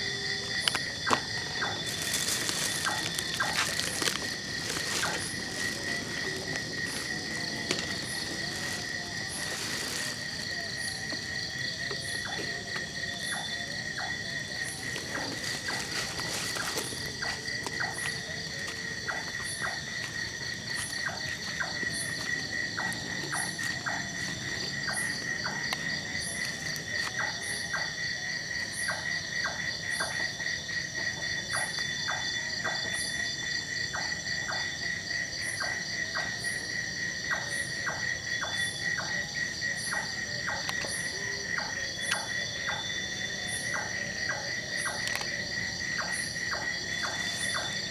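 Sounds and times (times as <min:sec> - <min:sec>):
high insect chirp: 0:00.0 - 0:47.9
insects trilling: 0:00.0 - 0:47.9.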